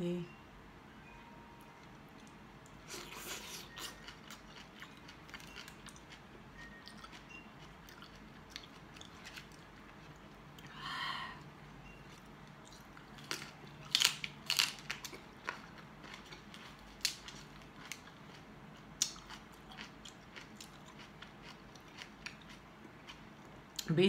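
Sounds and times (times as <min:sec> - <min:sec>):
crunching and chewing vegetables: 0:01.8 - 0:10.7, 0:11.9 - 0:23.9.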